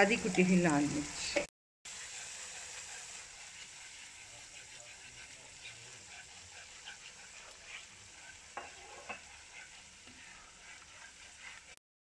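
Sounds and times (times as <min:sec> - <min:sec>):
faint sizzling crackle: 0:00.0 - 0:11.8
spatula stirring frying masala: 0:00.0 - 0:11.8.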